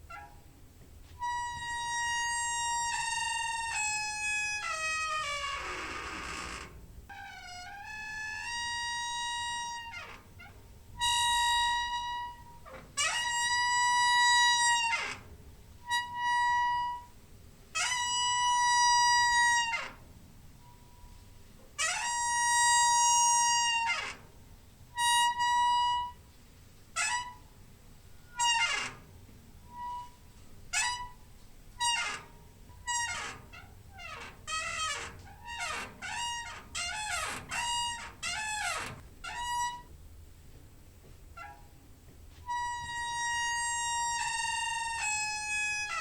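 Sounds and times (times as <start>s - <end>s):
door hinge squeaking: 0.0s - 0.5s, 1.2s - 17.2s, 17.8s - 20.0s, 21.8s - 24.3s, 24.9s - 26.2s, 26.9s - 27.5s, 28.1s - 39.9s, 41.3s - 41.8s, 42.4s - 46.0s.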